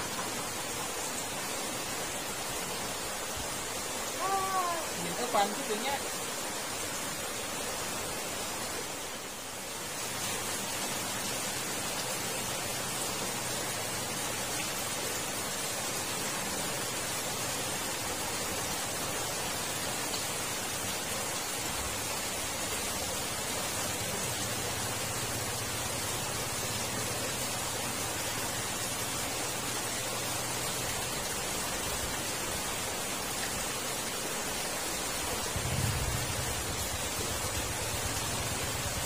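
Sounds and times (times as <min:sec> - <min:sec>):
water rushing through culvert: 0:00.0 - 0:39.0.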